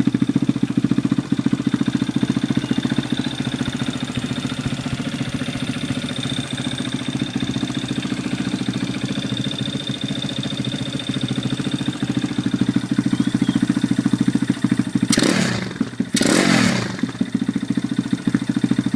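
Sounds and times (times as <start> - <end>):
motorcycle idling: 0.0 - 18.9
motorcycle throttle blips: 0.2 - 18.9.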